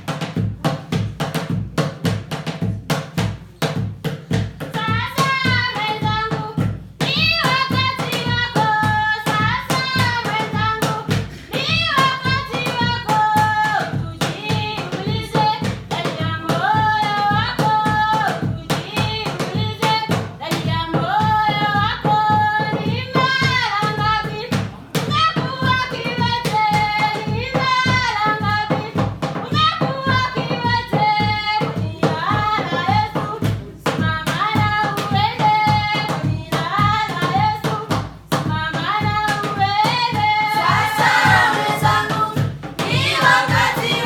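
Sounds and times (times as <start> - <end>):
fast hand-drum percussion: 0.0 - 44.0.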